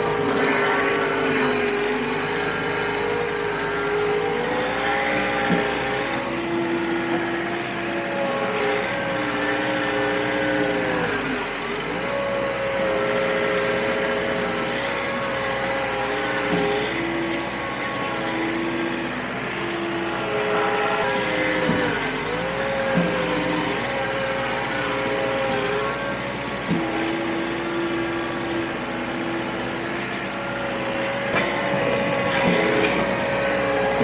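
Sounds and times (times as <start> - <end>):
diesel tractor engine under load: 0.0 - 34.0.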